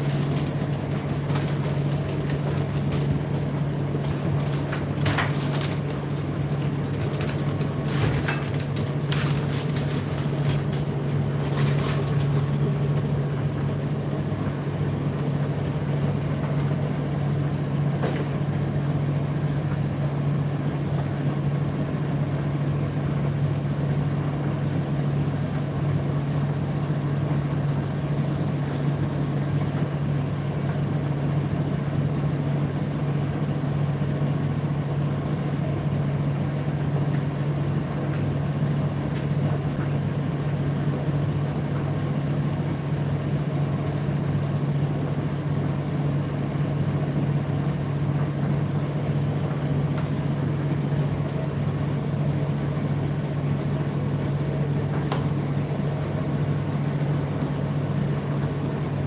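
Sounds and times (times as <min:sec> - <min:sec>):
tumble dryer running: 0:00.0 - 0:59.0.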